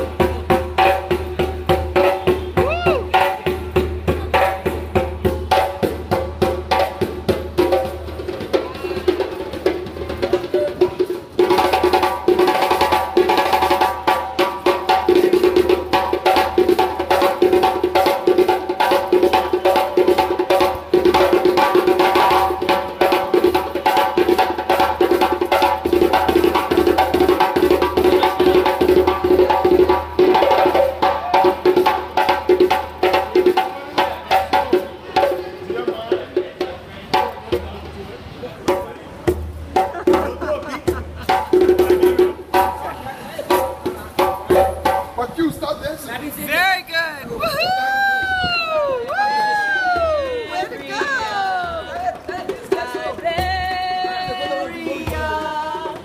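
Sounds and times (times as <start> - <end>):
percussion band drumming: 0.0 - 56.0.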